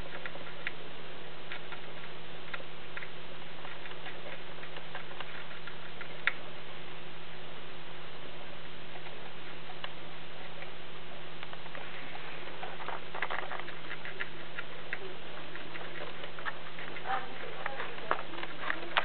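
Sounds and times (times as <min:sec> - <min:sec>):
gerbil ticks and rustles: 0:00.0 - 0:06.7, 0:08.5 - 0:19.0
electrical hum and hiss: 0:00.0 - 0:19.0.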